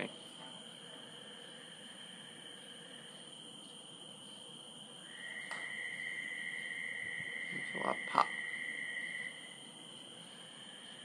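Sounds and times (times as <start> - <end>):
frogs and insects trilling: 0.0 - 11.0.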